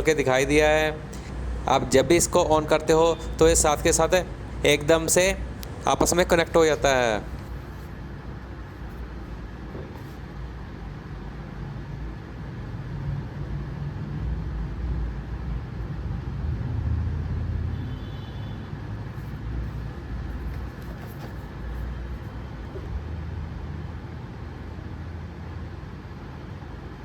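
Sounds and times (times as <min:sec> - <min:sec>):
low rumbling background noise: 0:00.0 - 0:27.0.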